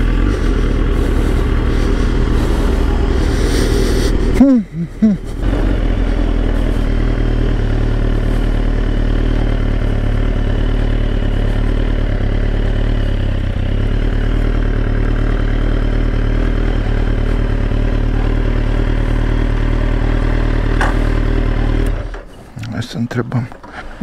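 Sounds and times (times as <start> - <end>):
motorcycle engine running at low revs: 0.0 - 22.4.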